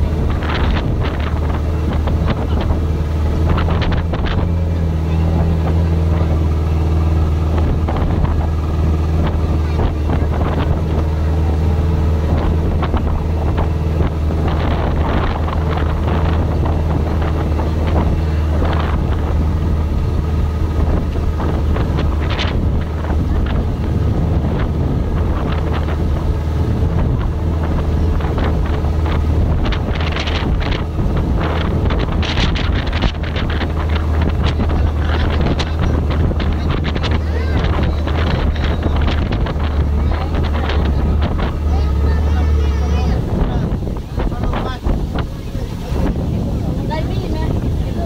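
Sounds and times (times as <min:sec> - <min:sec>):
motorboat engine drone: 0:00.0 - 0:48.0
wind buffeting microphone: 0:00.0 - 0:48.0.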